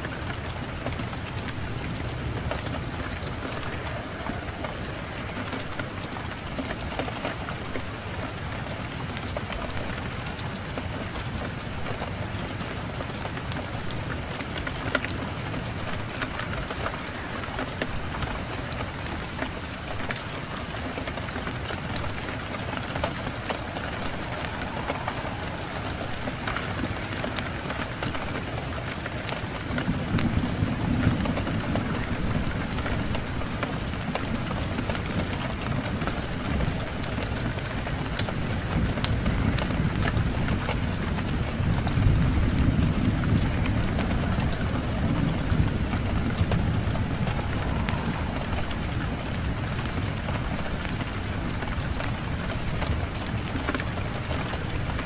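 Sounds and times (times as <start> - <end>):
wind rumbling: 0.0 - 55.0
fire crackling and popping: 0.1 - 55.0.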